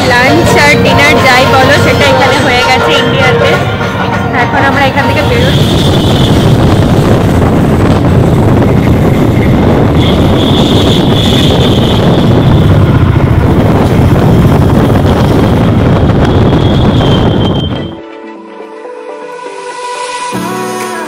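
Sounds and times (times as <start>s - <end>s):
vehicle rumble: 0.0s - 17.9s
wind buffeting microphone: 0.0s - 18.0s.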